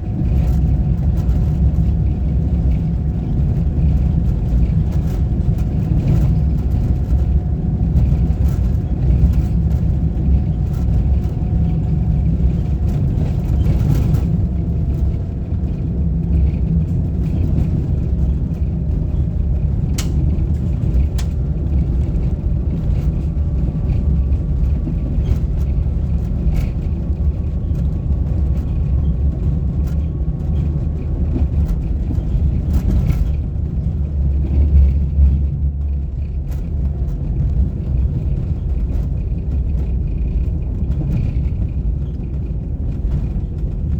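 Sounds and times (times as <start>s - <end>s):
vehicle engine and tyres rumbling: 0.0s - 43.9s.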